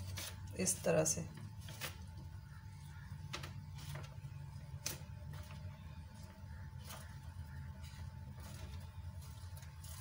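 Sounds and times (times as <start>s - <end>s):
paper rustling: 0.0s - 2.2s, 3.3s - 10.0s
steady low hum: 0.0s - 10.0s.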